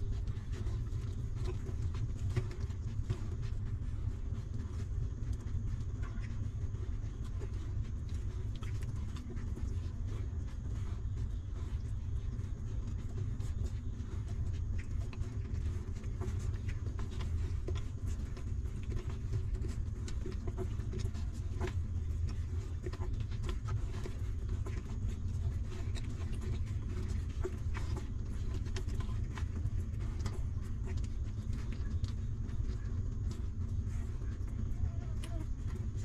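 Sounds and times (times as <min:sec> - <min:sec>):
puppies suckling clicks: 0:00.0 - 0:36.0
steady low rumble: 0:00.0 - 0:36.0.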